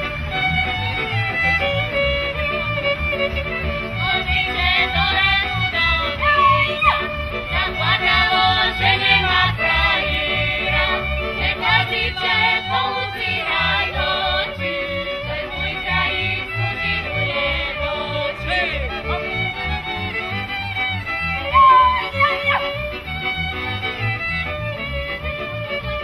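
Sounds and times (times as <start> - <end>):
voices singing: 0.0 - 25.3
fiddles: 0.0 - 26.0.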